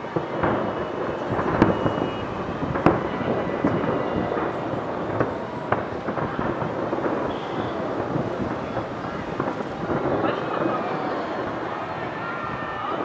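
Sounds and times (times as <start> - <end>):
firework shells bursting: 0.0 - 11.8.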